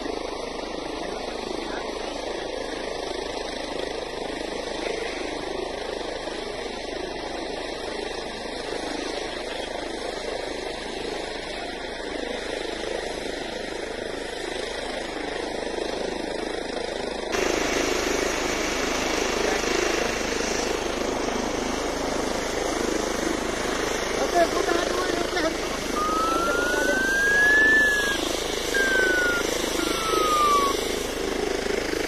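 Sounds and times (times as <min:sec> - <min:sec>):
helicopter engine and rotor: 0:00.0 - 0:32.0.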